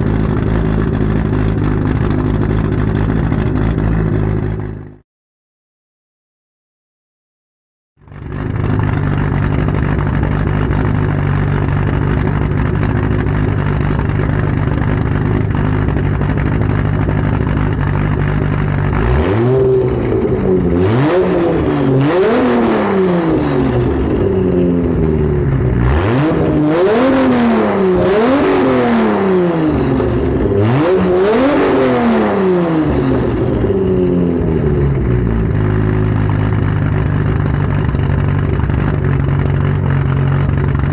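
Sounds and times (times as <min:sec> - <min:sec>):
car engine idling and revving: 0:00.0 - 0:05.0, 0:08.0 - 0:40.9.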